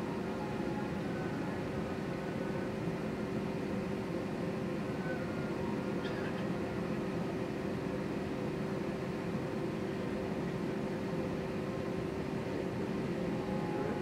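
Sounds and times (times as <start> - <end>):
airliner cabin drone: 0.0 - 14.0
constant hum: 0.0 - 14.0.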